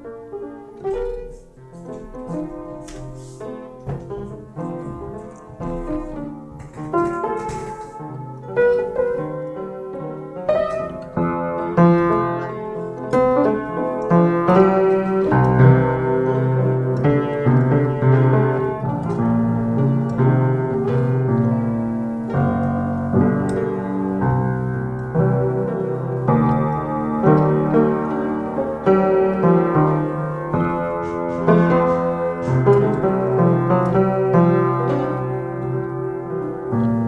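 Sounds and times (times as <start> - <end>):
electric piano chords: 0.0 - 37.0.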